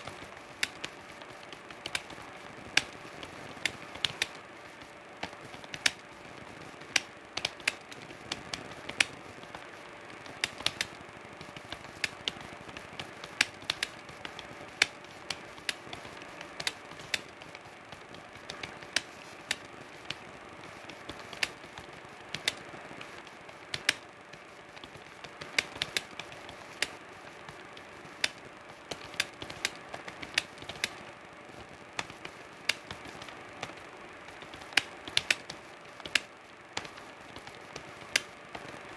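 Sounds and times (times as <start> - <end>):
faint steady hum: 0.0 - 38.9
typing on computer keyboard: 0.0 - 38.9.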